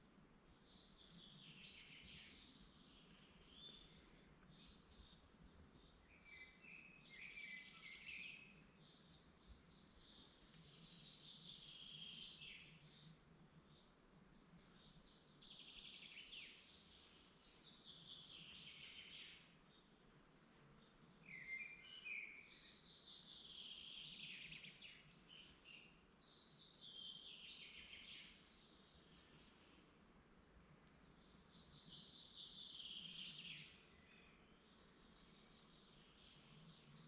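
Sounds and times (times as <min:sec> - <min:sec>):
faint background hiss: 0:00.0 - 0:37.0
low bird twitter: 0:00.6 - 0:37.0.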